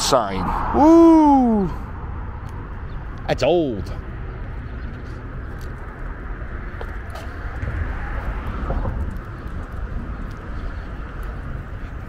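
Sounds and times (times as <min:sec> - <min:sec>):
highway traffic noise: 0:00.0 - 0:12.0.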